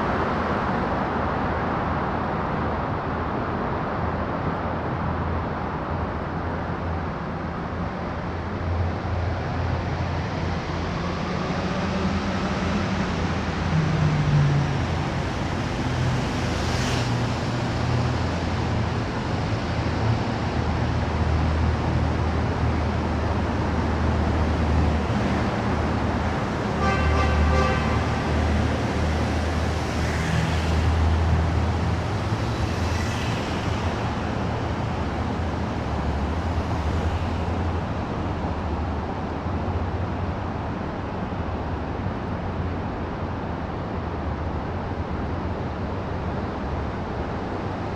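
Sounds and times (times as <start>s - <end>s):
road traffic rumble: 0.0s - 47.9s.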